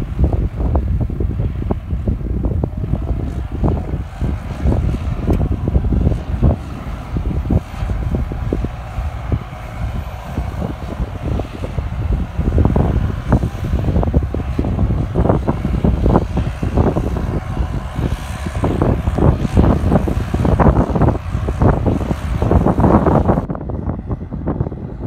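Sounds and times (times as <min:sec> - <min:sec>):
tractor diesel engine running: 0:00.0 - 0:25.0
wind buffeting microphone: 0:00.0 - 0:25.0.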